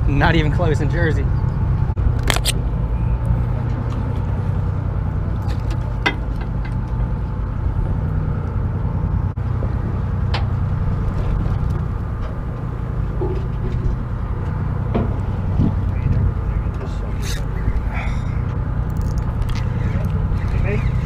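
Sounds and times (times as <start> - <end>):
boat engine low drone: 0.0 - 21.0.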